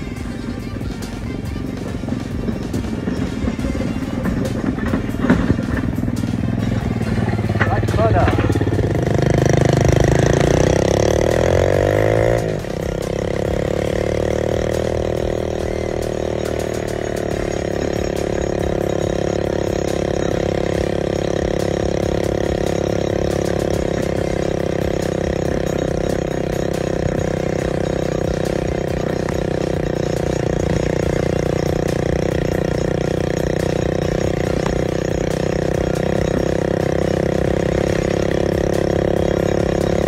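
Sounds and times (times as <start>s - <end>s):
vehicle engine revving: 0.0s - 40.0s.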